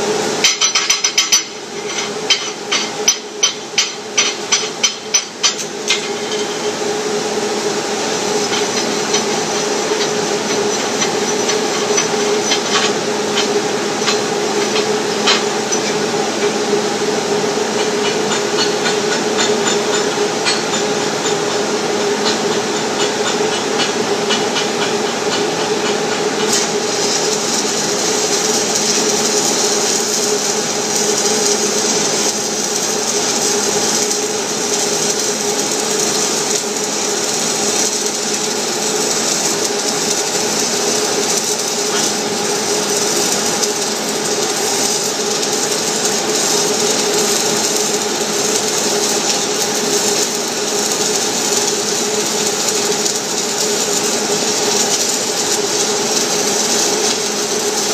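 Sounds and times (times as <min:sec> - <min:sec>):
steady hum: 0:00.0 - 0:57.9
welding arc crackling and hissing: 0:00.0 - 0:57.9.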